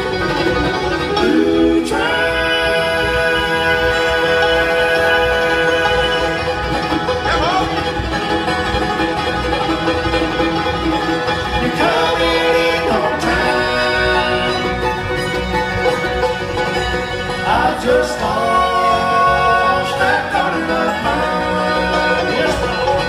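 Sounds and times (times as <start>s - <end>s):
bluegrass band playing live: 0.0s - 23.0s
sliding notes rising in pitch: 0.0s - 23.0s.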